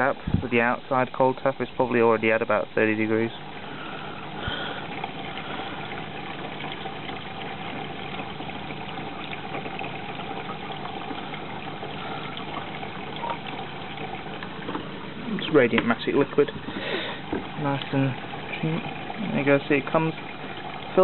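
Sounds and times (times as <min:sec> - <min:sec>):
washing machine hum: 0:00.0 - 0:21.0
water rushing into washing machine: 0:00.0 - 0:21.0.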